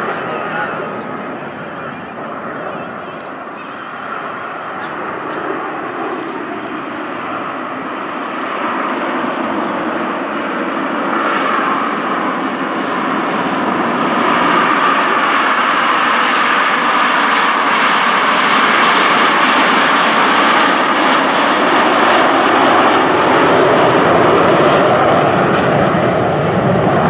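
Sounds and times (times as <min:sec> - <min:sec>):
jets flying past: 0:00.0 - 0:27.0.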